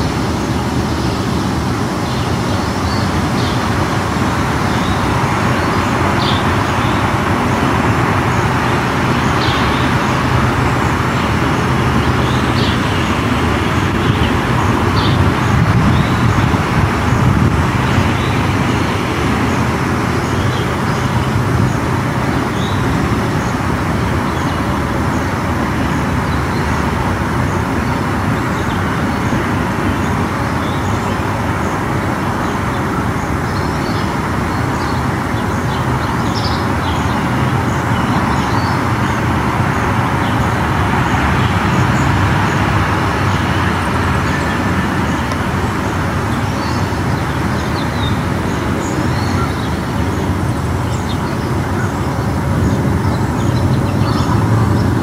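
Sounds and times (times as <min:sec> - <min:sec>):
distant road traffic rumble: 0:00.0 - 0:55.0.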